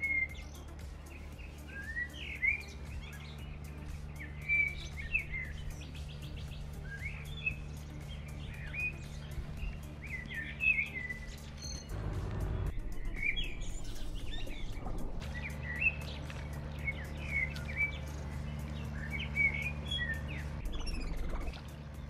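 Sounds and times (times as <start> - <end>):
songbirds chirping: 0.0 - 22.0
steady low hum: 0.0 - 22.0.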